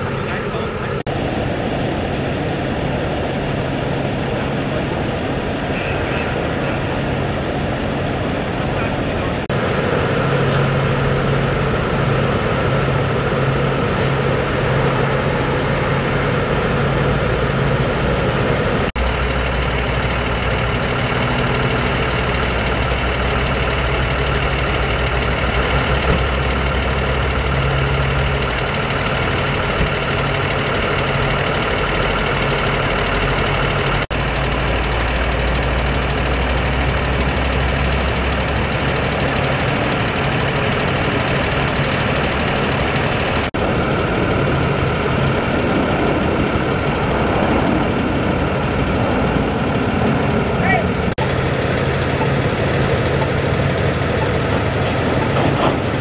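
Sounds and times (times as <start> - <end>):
diesel engines idling: 0.0 - 56.0.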